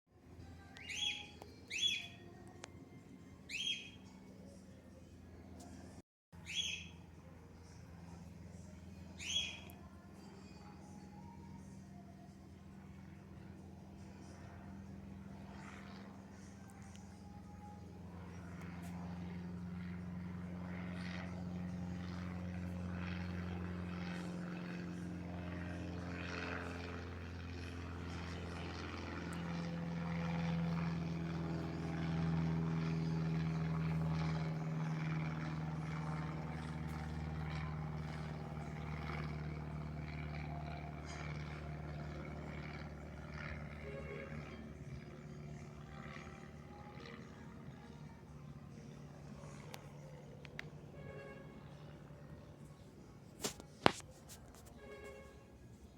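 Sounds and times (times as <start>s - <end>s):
propeller plane flying overhead: 0.1s - 55.9s.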